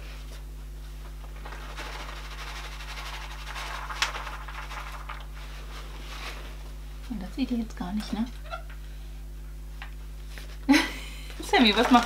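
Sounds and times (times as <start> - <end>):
rustling and handling noise: 0.0 - 10.7
low electrical hum: 0.0 - 12.0.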